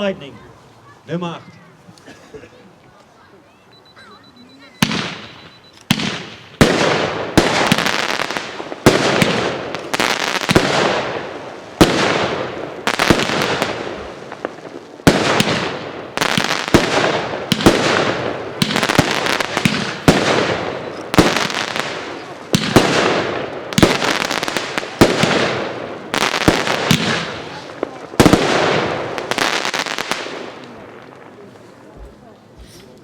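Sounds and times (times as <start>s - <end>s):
firework bangs: 4.8s - 31.5s
firework crackling: 4.8s - 31.9s.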